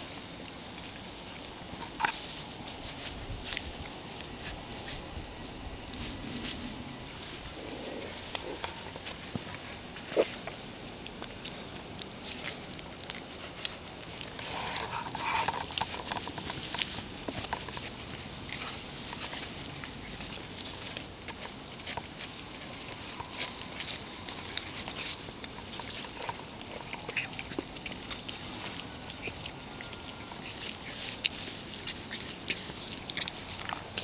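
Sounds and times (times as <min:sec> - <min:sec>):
puppies rustling in grass: 0:00.0 - 0:34.0.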